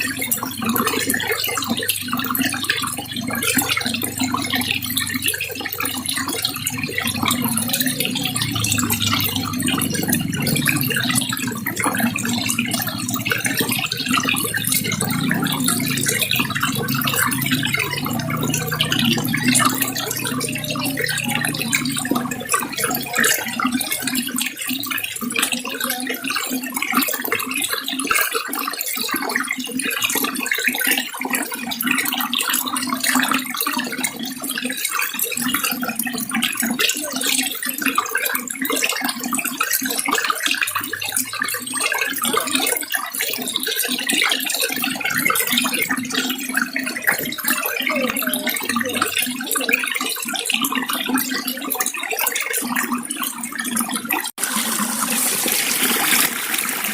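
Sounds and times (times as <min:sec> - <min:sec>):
water running and splashing: 0:00.0 - 0:56.9.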